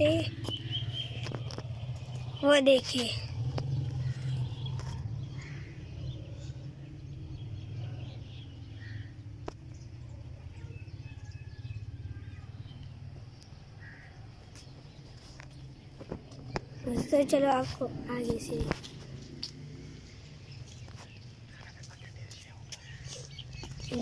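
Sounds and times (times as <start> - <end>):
bird chirps and calls: 0.0 - 15.8, 20.4 - 24.0.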